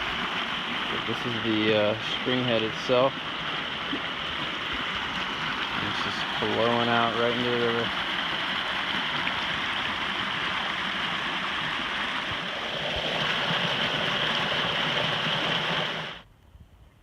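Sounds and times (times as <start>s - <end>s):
water rushing and gurgling: 0.0s - 16.2s.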